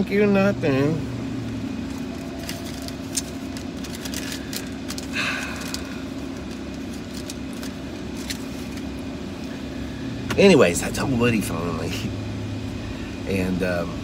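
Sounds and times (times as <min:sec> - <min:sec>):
idling car cabin hum: 0:00.0 - 0:14.0.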